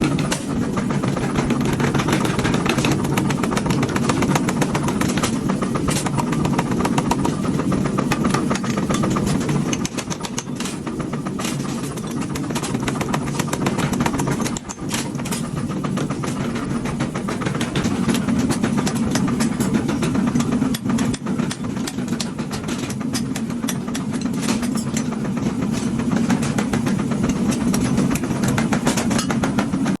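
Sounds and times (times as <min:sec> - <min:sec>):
fast continuous clatter: 0:00.0 - 0:30.0.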